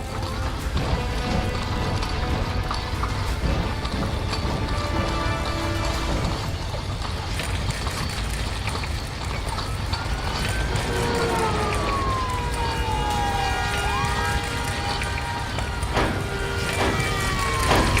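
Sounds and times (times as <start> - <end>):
low vehicle rumble: 0.0 - 18.0
police siren wailing: 0.0 - 18.0.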